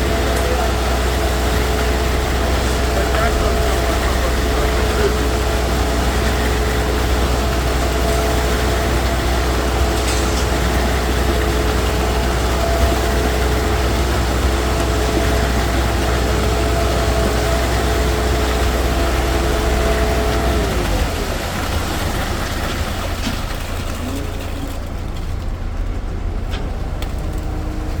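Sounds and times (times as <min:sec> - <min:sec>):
concrete mixer engine running: 0:00.0 - 0:28.0.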